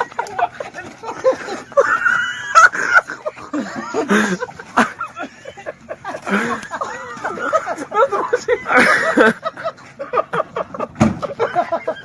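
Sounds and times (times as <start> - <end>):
people's voices: 0.0 - 10.6.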